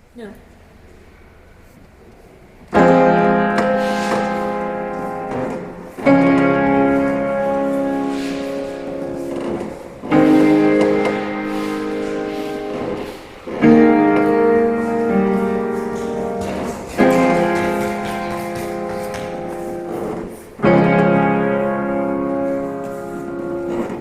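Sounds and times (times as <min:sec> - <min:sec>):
slow piano chords: 0:02.6 - 0:24.0.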